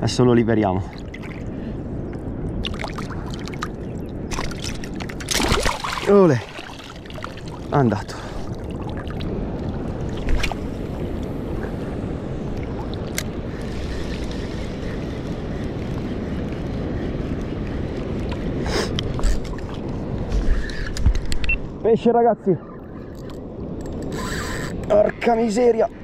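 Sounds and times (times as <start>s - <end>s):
water noise: 0.0s - 21.8s
wind noise on microphone: 0.0s - 21.9s, 23.0s - 26.0s.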